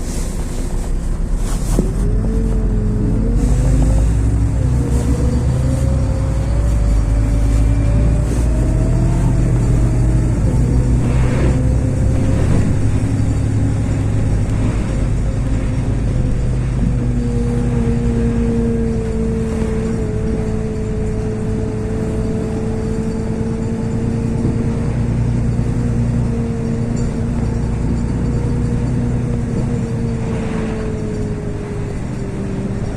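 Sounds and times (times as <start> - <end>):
bus engine droning: 0.0 - 32.9
drivetrain whine: 0.0 - 32.9.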